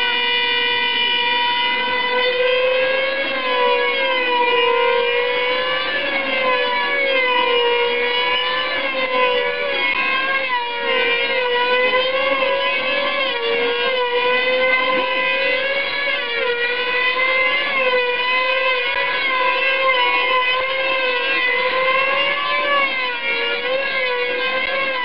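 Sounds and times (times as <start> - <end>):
model aircraft engines whining: 0.0 - 25.0.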